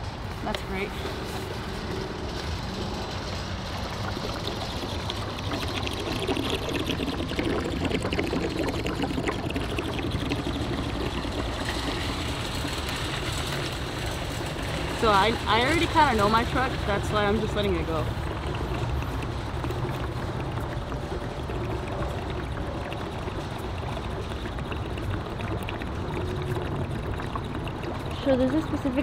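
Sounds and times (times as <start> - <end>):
liquid glugging from a jug: 0.3 - 29.0.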